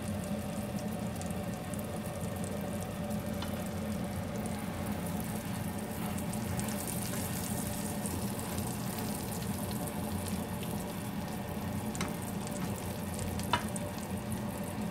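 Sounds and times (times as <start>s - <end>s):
low steady hum: 0.0s - 14.9s
omelettes sizzling in oil: 0.0s - 14.9s.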